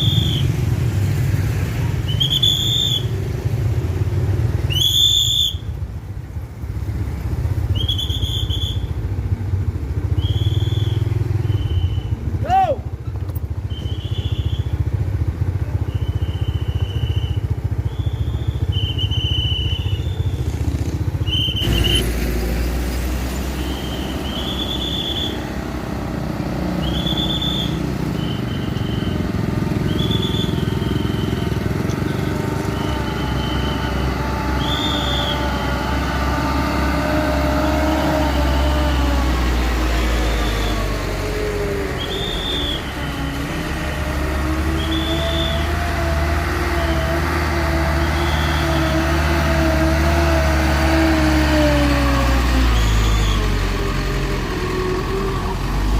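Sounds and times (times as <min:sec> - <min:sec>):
vehicle engines running: 0:00.0 - 0:55.9.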